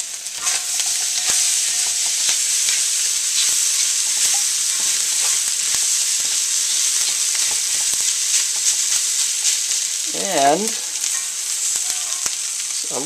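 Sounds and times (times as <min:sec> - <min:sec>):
rice and vegetables sizzling in a wok: 0:00.0 - 0:13.0.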